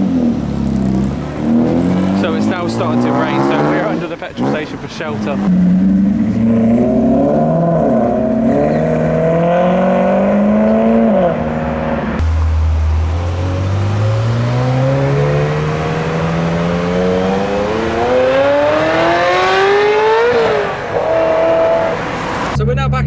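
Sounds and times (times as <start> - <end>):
car engine accelerating: 0.0 - 22.6
engine revving from low revs: 0.0 - 22.6.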